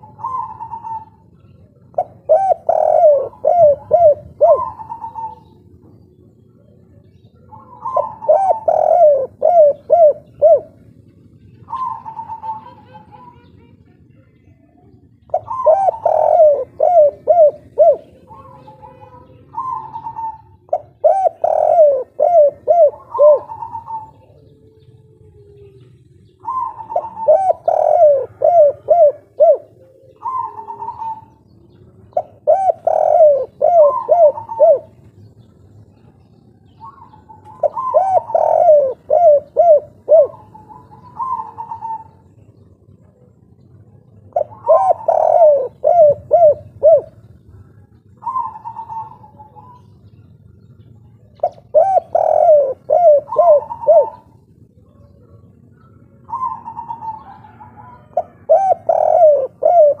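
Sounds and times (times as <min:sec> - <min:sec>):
dove cooing: 0:00.0 - 1:00.0.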